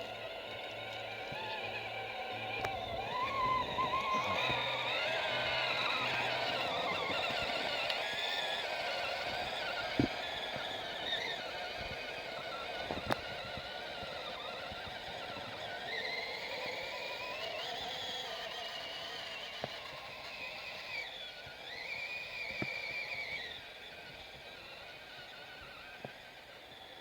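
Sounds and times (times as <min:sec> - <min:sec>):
toy truck motor whining: 0:00.0 - 0:27.0.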